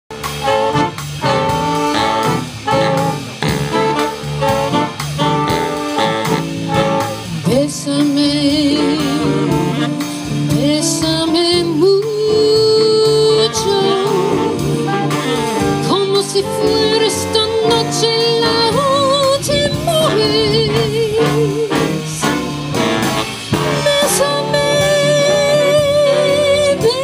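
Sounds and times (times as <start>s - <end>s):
repeated jazz chords: 0.1s - 27.0s
held melody with vibrato: 0.2s - 27.0s.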